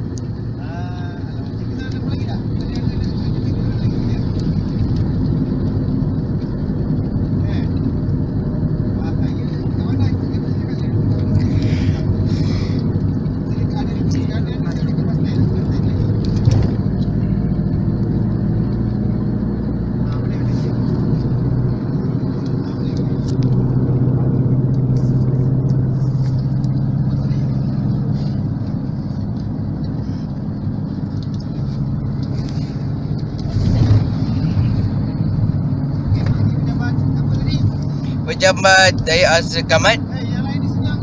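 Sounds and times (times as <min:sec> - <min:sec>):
van engine and road noise: 0:00.0 - 0:41.0.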